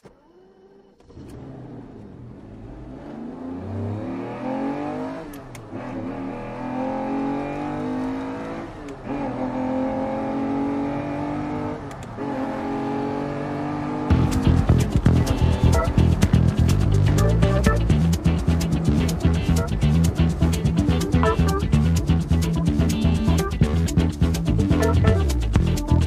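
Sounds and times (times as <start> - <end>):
car engine accelerating hard: 0.3 - 26.0.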